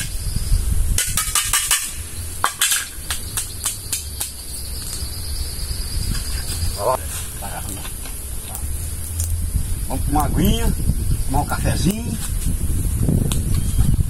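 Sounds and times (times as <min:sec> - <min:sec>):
lower insect drone: 0:00.0 - 0:14.0.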